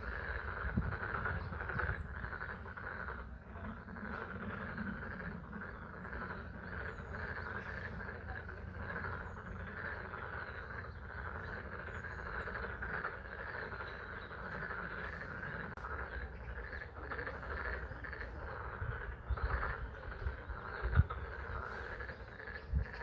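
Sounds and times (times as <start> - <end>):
frogs trilling: 0.0 - 23.0.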